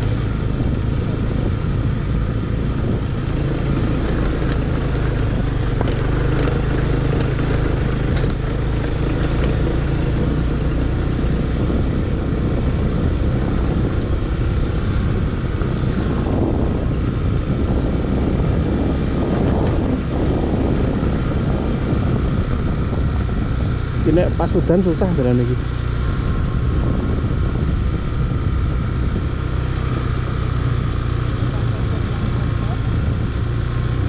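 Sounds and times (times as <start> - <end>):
motorbike engine running: 0.0 - 34.0.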